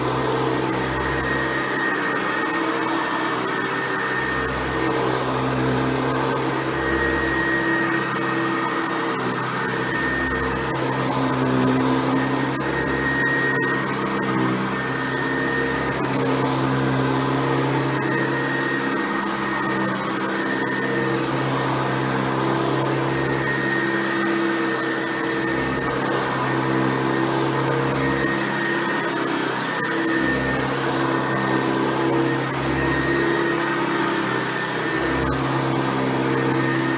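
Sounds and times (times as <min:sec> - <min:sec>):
upright vacuum cleaner running: 0:00.0 - 0:36.9.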